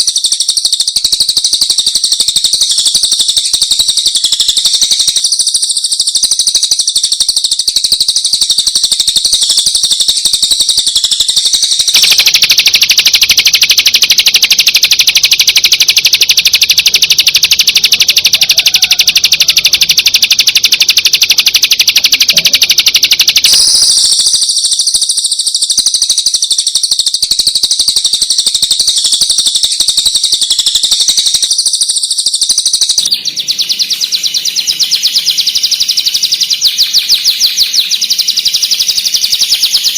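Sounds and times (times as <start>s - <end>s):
shrike singing fast chattering song: 0.0s - 39.9s.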